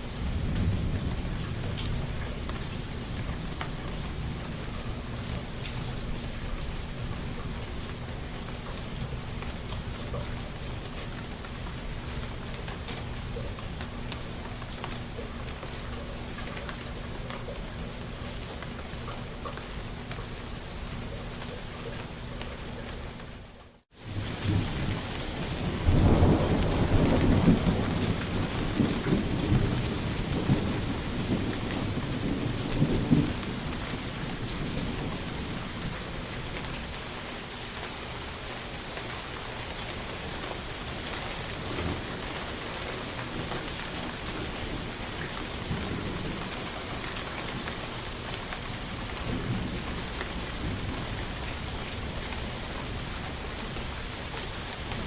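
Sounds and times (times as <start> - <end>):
rolling rumble of thunder: 0.0 - 22.4, 24.0 - 37.3, 40.0 - 55.0
heavy rain: 0.0 - 55.0.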